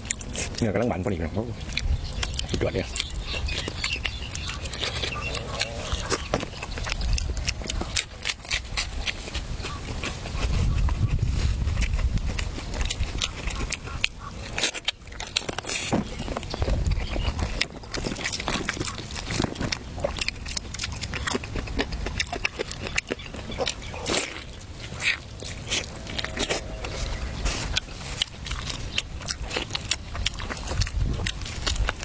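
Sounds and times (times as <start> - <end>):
person chewing meat: 0.0 - 32.0.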